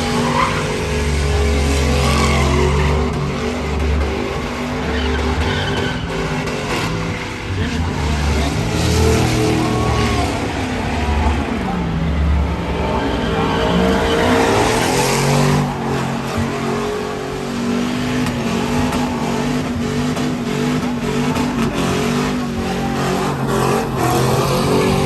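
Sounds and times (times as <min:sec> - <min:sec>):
truck engines revving hard: 0:00.0 - 0:25.0.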